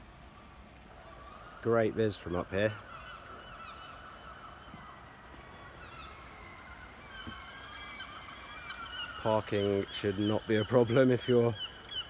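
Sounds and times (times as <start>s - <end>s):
distant bird chirps: 0.0s - 12.0s
faint outdoor background noise: 0.0s - 12.0s.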